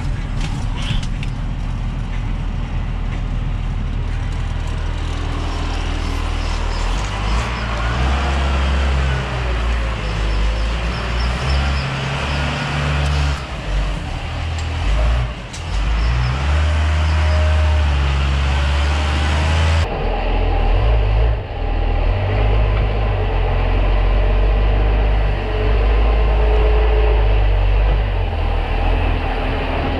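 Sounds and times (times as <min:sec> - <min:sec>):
tractor diesel engine rumbling: 0:00.0 - 0:29.9.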